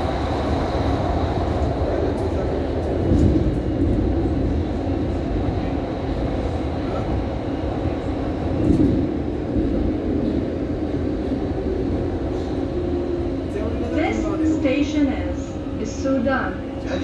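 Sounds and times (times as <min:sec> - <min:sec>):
train rumbling in tunnel: 0:00.0 - 0:17.0.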